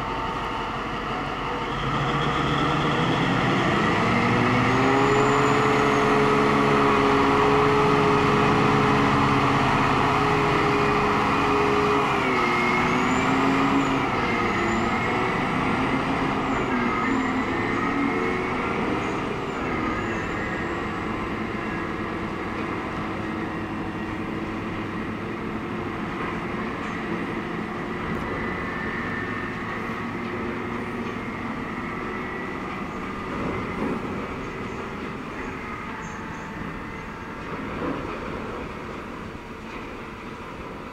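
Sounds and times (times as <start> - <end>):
diesel truck engine driving away: 0.0 - 40.9.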